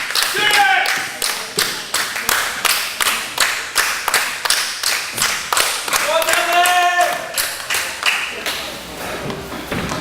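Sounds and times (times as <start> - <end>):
crowd clapping in unison: 0.0 - 8.7.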